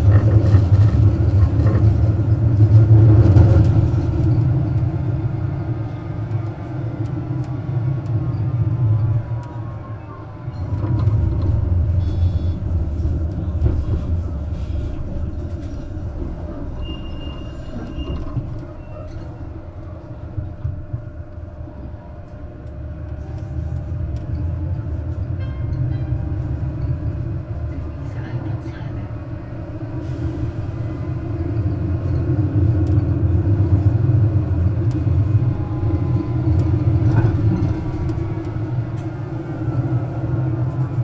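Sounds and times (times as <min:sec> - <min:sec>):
tram rumbling: 0:00.0 - 0:41.0.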